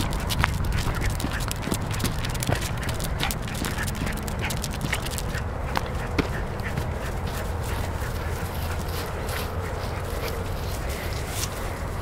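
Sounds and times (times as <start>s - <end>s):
footsteps through grass: 0.0s - 12.0s
wind rumble on microphone: 0.0s - 12.0s.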